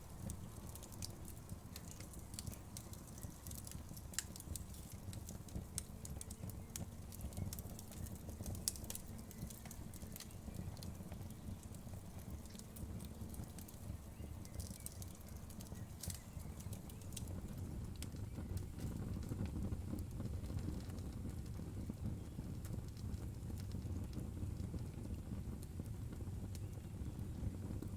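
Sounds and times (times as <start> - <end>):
low rumble of flames: 0.0 - 27.9
wood fire crackling and popping: 0.0 - 27.9.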